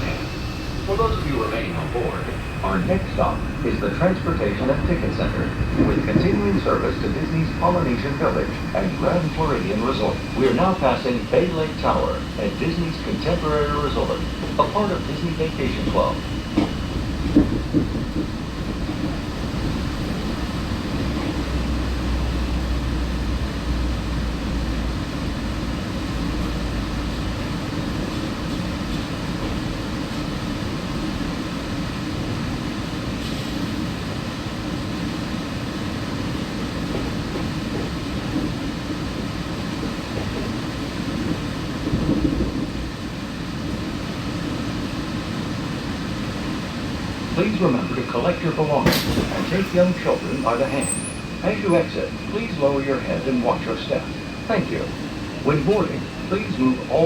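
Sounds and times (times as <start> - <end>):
monorail train rumbling in motion: 0.0 - 57.0.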